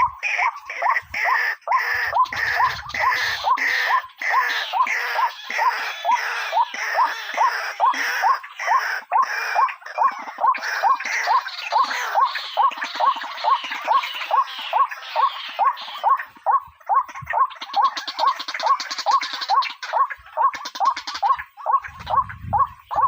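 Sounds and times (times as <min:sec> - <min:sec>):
waterhen calling harsh notes: 0:00.0 - 0:23.0.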